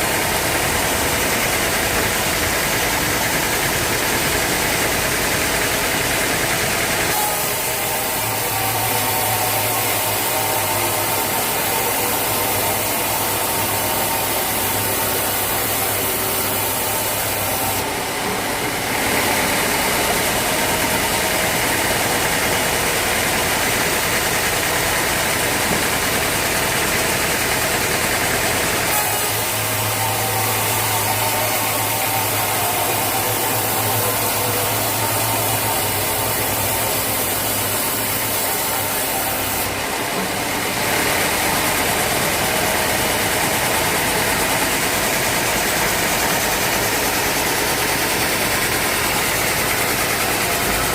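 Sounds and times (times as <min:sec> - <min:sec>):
high-pitched machine noise: 0:00.0 - 0:50.9
sawmill engine running: 0:00.0 - 0:50.9.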